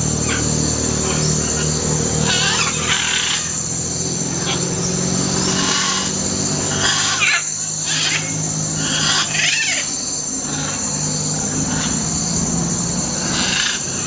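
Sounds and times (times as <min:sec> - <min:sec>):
macaw squawking: 0:00.0 - 0:14.0
steady low hum: 0:00.0 - 0:14.0.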